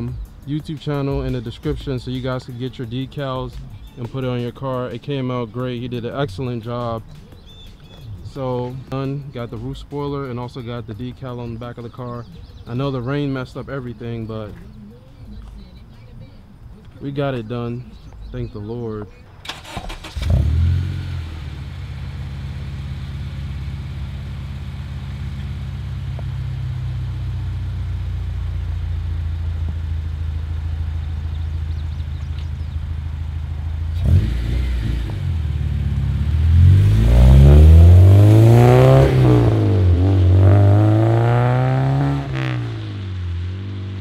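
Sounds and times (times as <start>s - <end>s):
car engine idling and revving: 0.0s - 18.6s, 19.3s - 44.0s.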